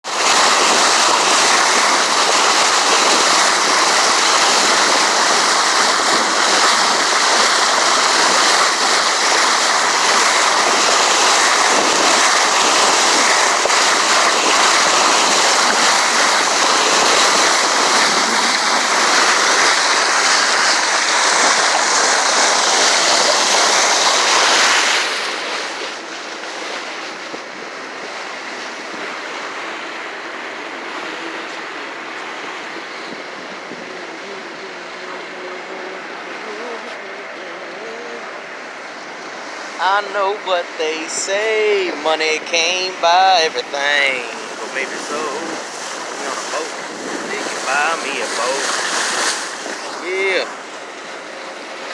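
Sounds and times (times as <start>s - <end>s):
sea water rushing along a boat: 0.0s - 51.9s.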